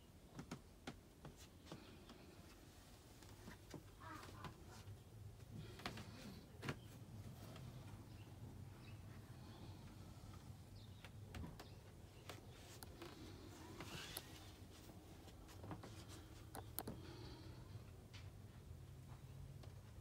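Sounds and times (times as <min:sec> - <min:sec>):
faint clicks and rustles: 0:00.2 - 0:20.0.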